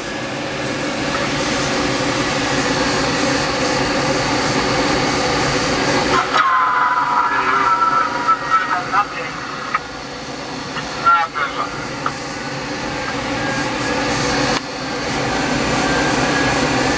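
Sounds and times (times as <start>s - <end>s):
airflow rushing: 0.0s - 16.9s
low drone: 0.0s - 16.9s
steady high tone: 2.0s - 16.9s.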